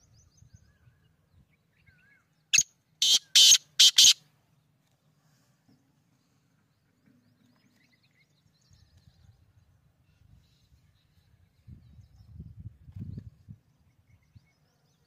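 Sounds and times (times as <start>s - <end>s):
distant small birds chirping: 0.0s - 12.4s.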